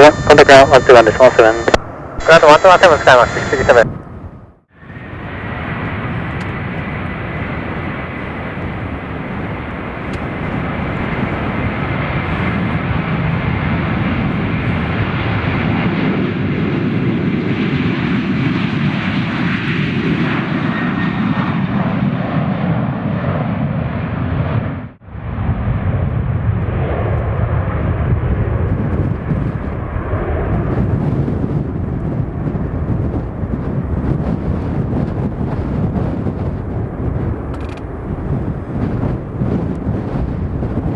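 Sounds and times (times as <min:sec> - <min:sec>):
jet airliner engines passing: 0:00.0 - 0:40.9.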